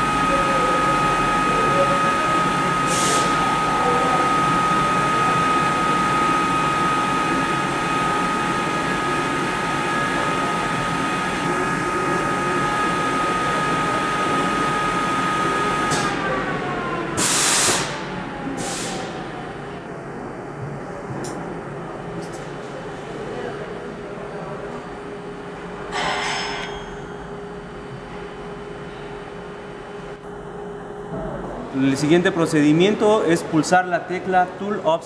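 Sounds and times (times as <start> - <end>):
machine high whine: 0.0 - 20.5, 21.8 - 34.8.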